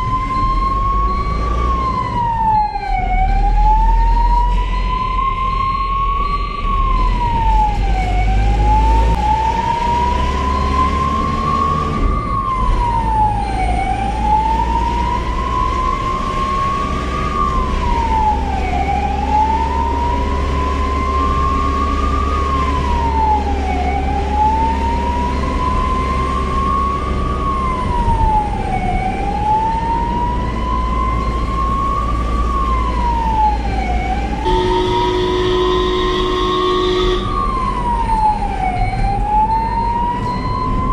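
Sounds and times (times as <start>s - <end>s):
ambulance siren wailing: 0.0s - 40.9s
engine and road rumble: 0.0s - 40.9s.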